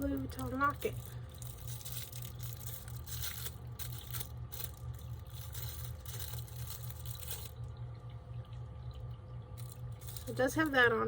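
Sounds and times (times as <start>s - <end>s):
plastic wrapping crinkling: 0.0s - 7.8s, 9.6s - 10.8s
steady low hum: 0.0s - 11.0s.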